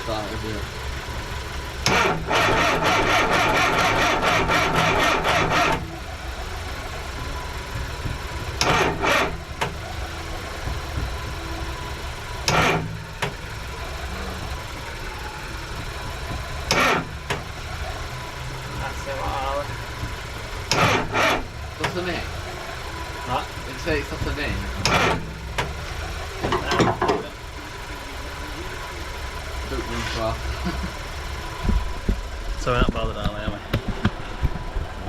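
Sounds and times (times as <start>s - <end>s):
car engine cranking: 0.0s - 35.0s
steady engine hum: 0.0s - 35.0s.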